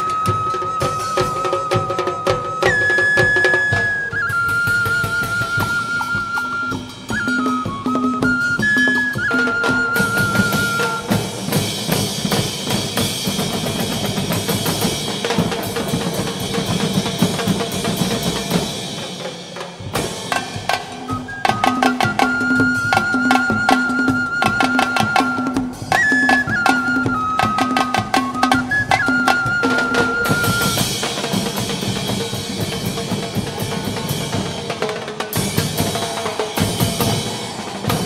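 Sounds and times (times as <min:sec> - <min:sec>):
heavy drumming and percussion: 0:00.0 - 0:38.0.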